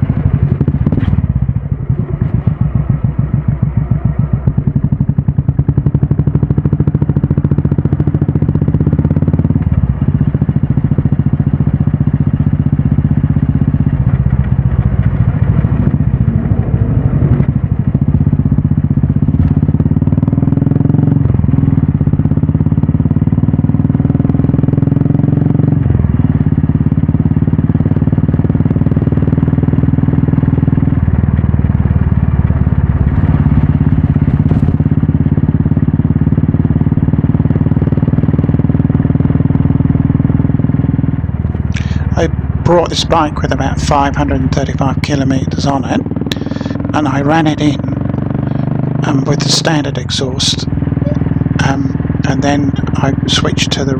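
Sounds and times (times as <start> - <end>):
motorcycle engine exhaust note: 0.0 - 53.9.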